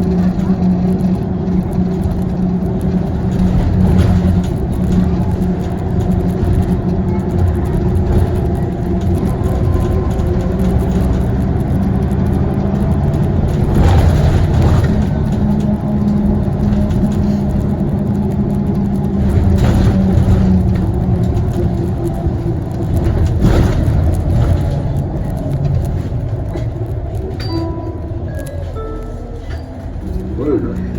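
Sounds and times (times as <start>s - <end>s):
bus diesel engine running: 0.0s - 30.9s.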